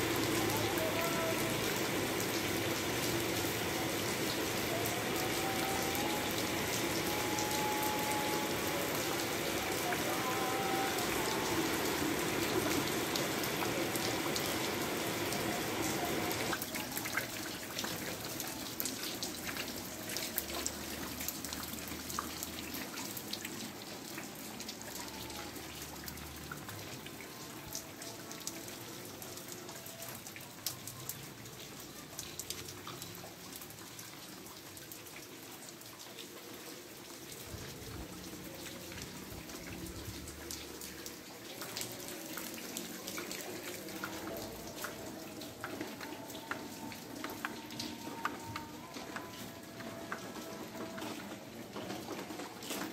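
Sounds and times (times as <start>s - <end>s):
rush of running water: 0.0s - 52.9s
steady rain falling: 0.0s - 52.9s.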